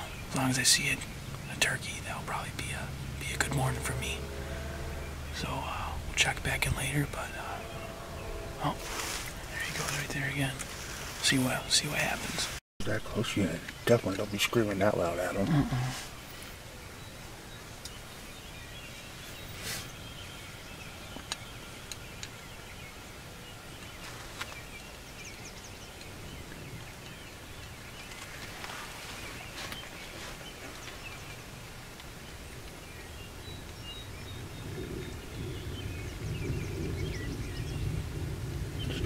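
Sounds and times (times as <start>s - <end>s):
low rumble of wind: 0.0s - 39.0s
songbirds chirping: 0.0s - 39.0s.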